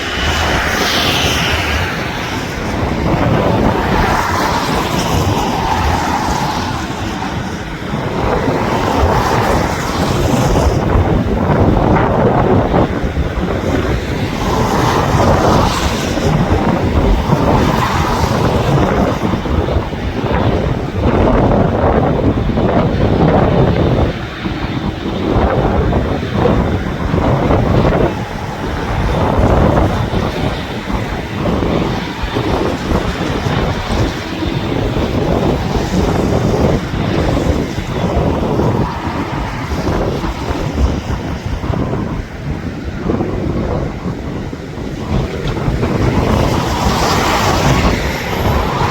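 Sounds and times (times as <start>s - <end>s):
aircraft engines rumbling: 0.0s - 48.9s
wind buffeting microphone: 0.0s - 48.9s.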